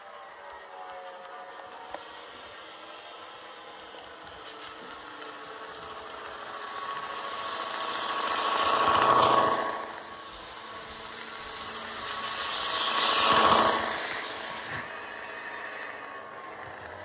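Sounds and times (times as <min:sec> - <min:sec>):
model train wheel and motor noise: 0:00.0 - 0:17.0.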